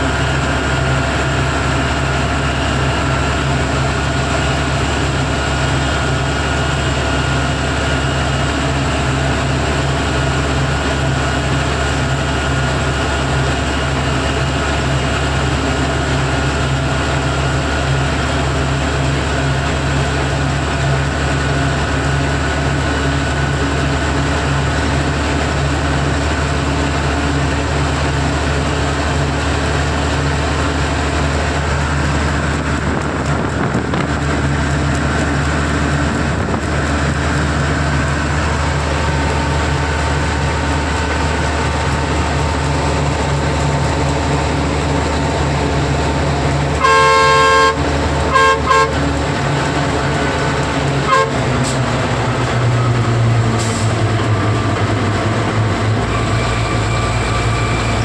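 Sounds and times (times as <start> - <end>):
diesel engine drone: 0.0 - 58.0
road noise: 0.0 - 58.0.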